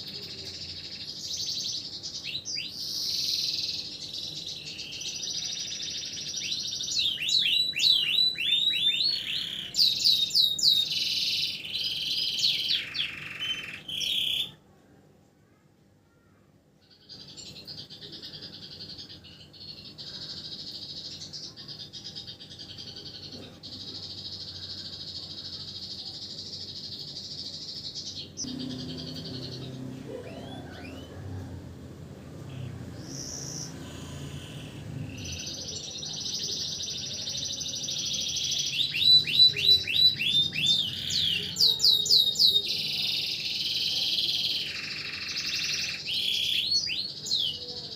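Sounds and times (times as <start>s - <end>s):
canary trilling: 0.0s - 14.6s, 16.8s - 47.9s.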